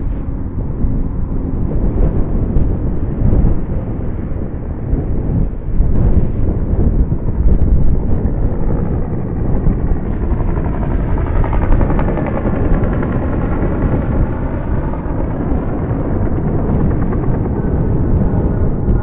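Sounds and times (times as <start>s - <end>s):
jet engines rumbling overhead: 0.0s - 19.0s
wind on microphone: 0.0s - 19.0s.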